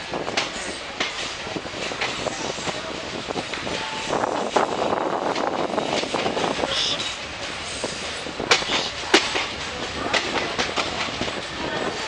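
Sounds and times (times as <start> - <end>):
train wheels rumbling on rails: 0.0 - 12.0
metallic clacks of rail joints: 0.2 - 12.0.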